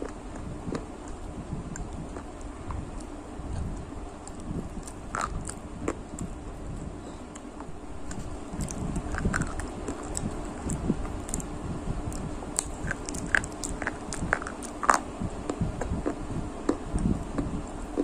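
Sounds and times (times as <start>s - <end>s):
mouth chewing clicks and smacks: 0.0s - 11.5s, 12.1s - 18.0s.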